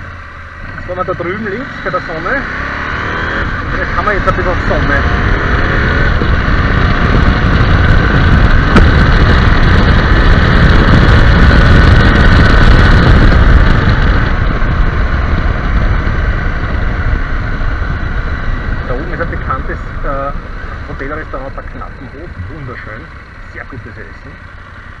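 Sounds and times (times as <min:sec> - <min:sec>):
motorcycle engine and road noise: 0:00.0 - 0:25.0
wind rush on microphone: 0:00.0 - 0:25.0.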